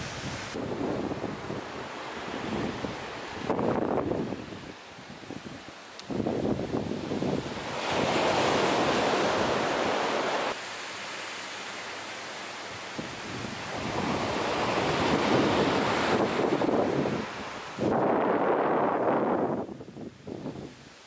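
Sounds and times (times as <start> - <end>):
wind buffeting microphone: 0.0 - 10.0, 13.0 - 20.9
surf washing onto beach: 0.0 - 20.9.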